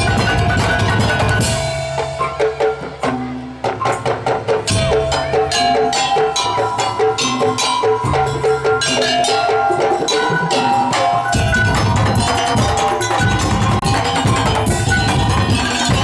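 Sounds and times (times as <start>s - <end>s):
low drum: 0.0s - 16.0s
pitched percussion strikes: 0.0s - 16.0s.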